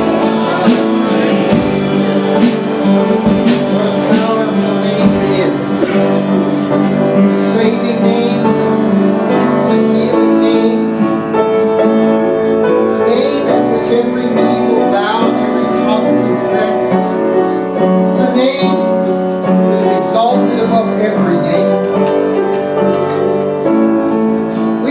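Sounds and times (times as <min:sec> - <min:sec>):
keyboard playing held chords: 0:00.0 - 0:24.9
worship band music: 0:00.0 - 0:24.9.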